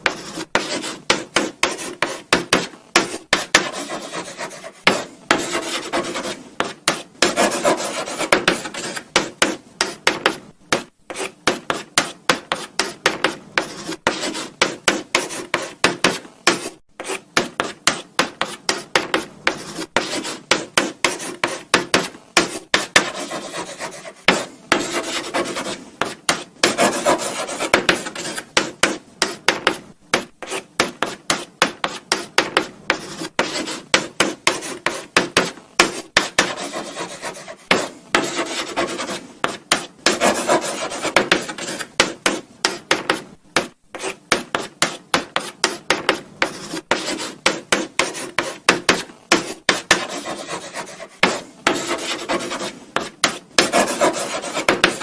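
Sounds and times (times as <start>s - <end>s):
chalk scratching on blackboard: 0.0s - 55.0s.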